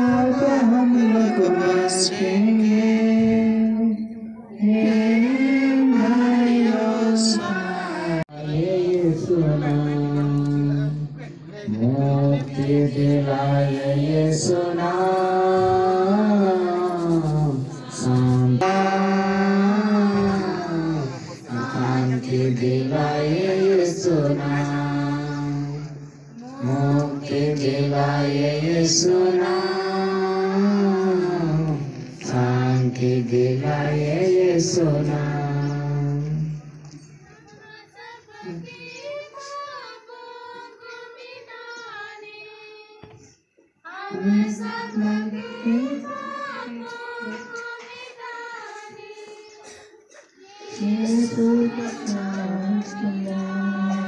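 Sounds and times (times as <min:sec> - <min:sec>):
group singing devotional song: 0:00.0 - 0:54.0.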